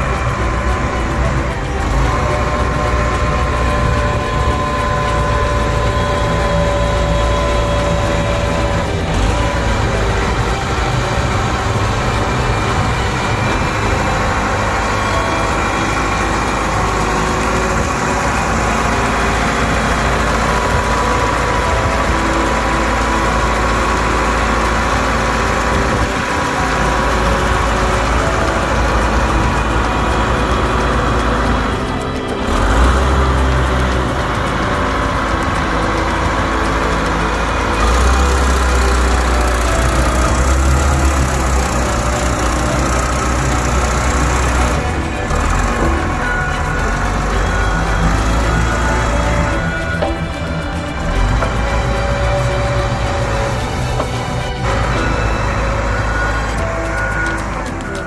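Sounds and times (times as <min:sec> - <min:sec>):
diesel engine rumbling: 0:00.0 - 0:58.0
thin steady whine: 0:00.0 - 0:58.0.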